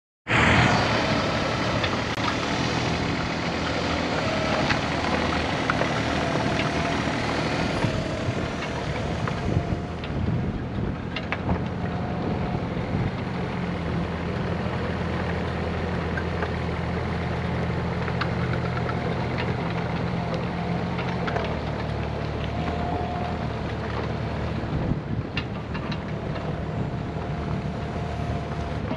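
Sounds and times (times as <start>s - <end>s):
excavator diesel engine running: 0.3s - 28.9s.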